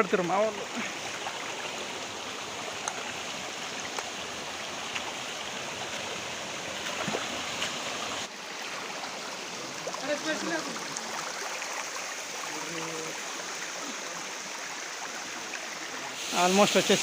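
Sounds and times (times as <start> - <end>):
rushing flowing water: 0.0 - 17.0.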